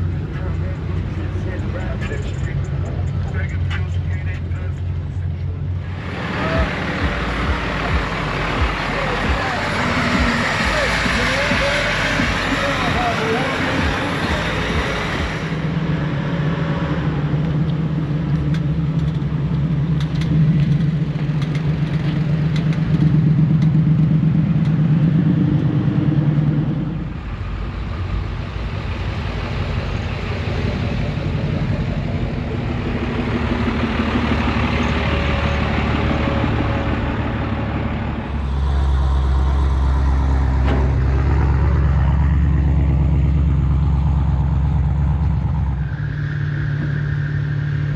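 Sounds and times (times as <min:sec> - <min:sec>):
truck engines running: 0:00.0 - 0:47.9.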